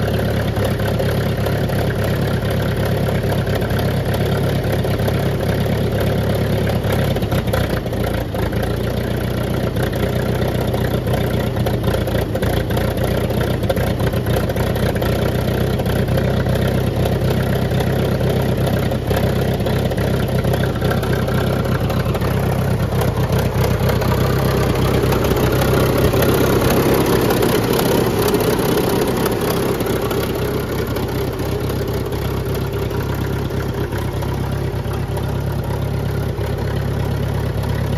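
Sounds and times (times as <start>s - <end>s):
tractor engine idling: 0.0s - 37.9s.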